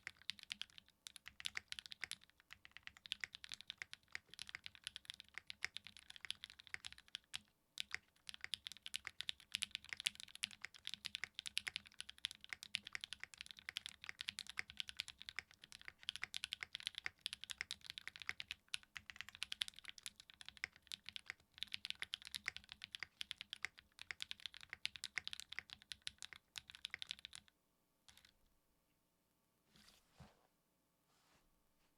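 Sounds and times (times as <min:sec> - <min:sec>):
mechanical keyboard typing: 0:00.0 - 0:27.5, 0:28.1 - 0:28.4.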